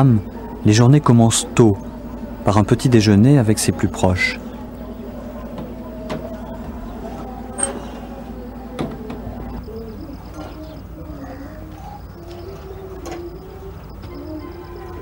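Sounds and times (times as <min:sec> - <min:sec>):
birds calling: 0:00.0 - 0:15.0
low cooing calls: 0:00.0 - 0:15.0
steady low hum: 0:00.0 - 0:15.0.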